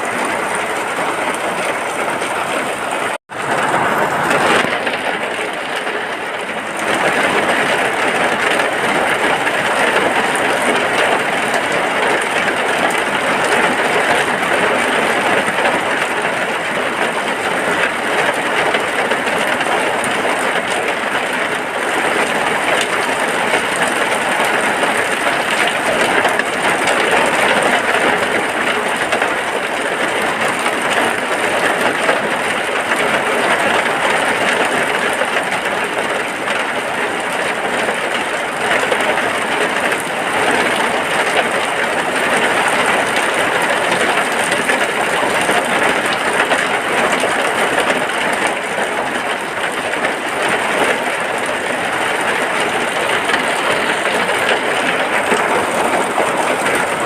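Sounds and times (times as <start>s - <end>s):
rain falling on a hut: 0.0s - 57.0s.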